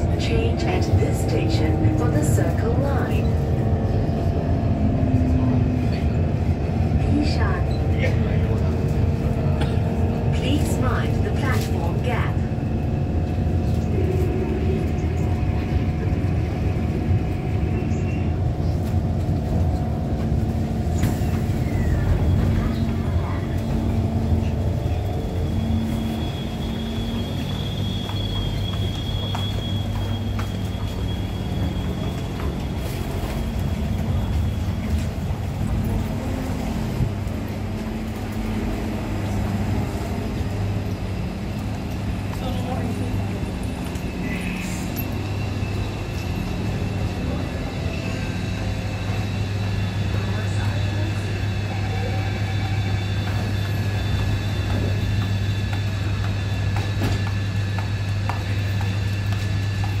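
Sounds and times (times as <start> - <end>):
train rumbling: 0.0 - 60.0.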